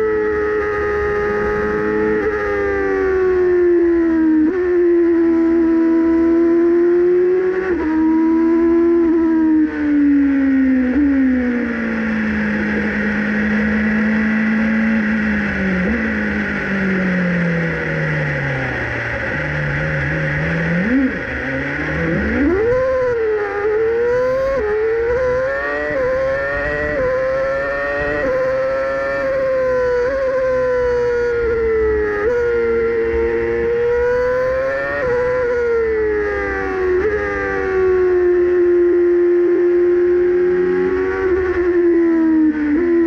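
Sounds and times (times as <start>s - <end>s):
racing car engine revving: 0.0s - 43.0s.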